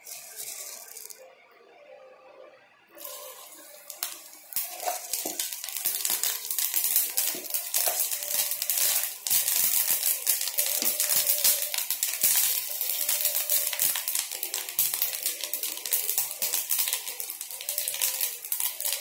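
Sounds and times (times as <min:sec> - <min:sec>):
hot oil sizzling in a frying pan: 0:00.0 - 0:01.2, 0:03.0 - 0:19.0.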